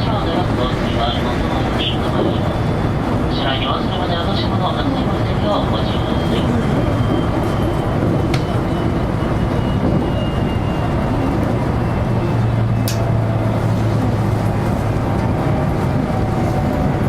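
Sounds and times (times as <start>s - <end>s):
low train hum: 0.0s - 17.0s
train wheels rumbling on rails: 0.0s - 17.0s.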